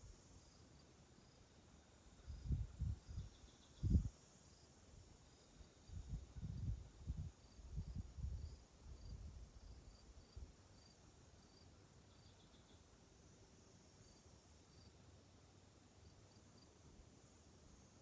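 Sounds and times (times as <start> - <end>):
faint insects chirping: 0.0 - 18.0.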